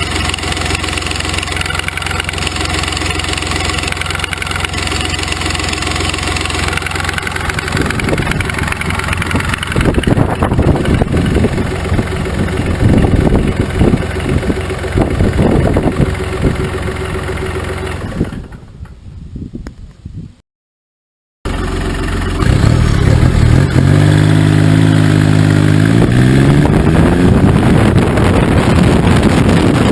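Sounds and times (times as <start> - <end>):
diesel motorcycle engine running: 0.0 - 18.8, 21.5 - 29.9.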